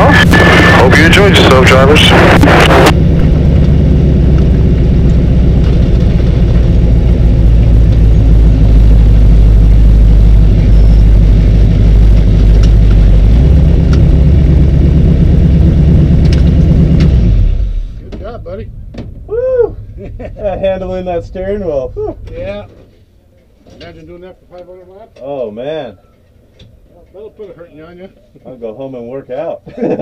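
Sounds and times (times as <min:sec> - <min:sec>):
race car engine idling: 0:00.0 - 0:24.4.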